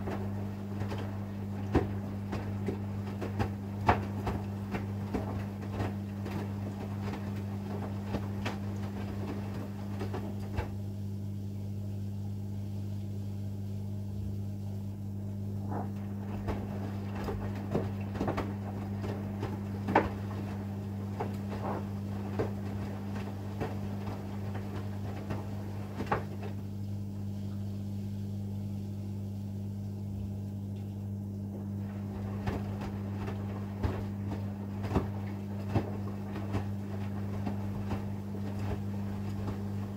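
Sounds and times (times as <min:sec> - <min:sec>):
washing machine drum tumbling: 0:00.0 - 0:11.0, 0:14.8 - 0:27.4, 0:31.1 - 0:39.9
steady electrical hum: 0:00.0 - 0:39.9.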